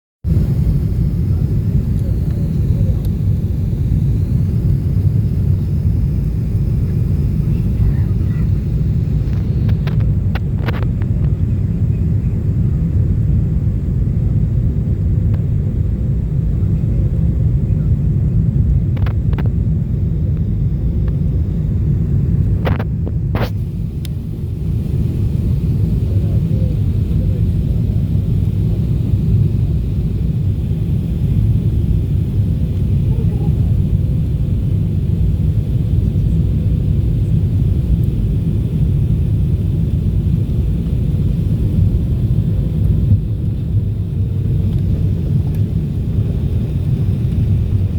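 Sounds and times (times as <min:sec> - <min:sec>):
aircraft cabin engine rumble: 0:00.2 - 0:47.9.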